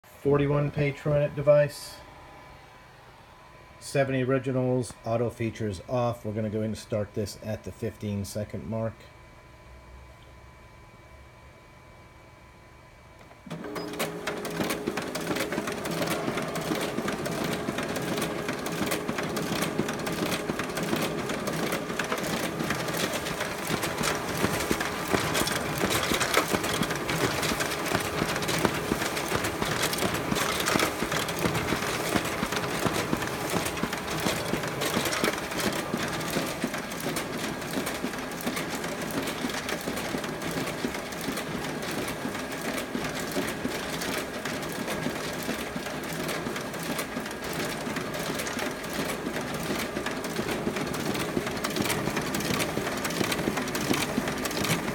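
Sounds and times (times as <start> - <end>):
copier whirring and clicking: 0.2 - 9.3, 13.0 - 54.9.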